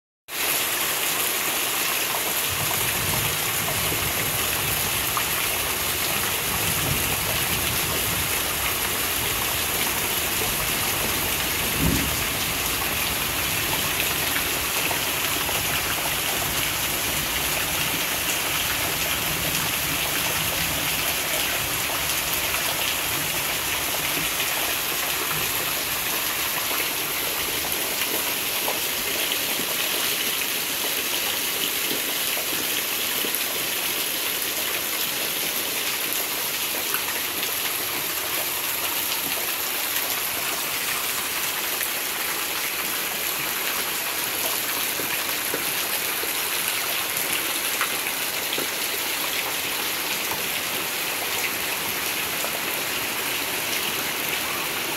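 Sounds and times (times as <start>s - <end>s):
heavy rain on leaves: 0.3s - 54.9s.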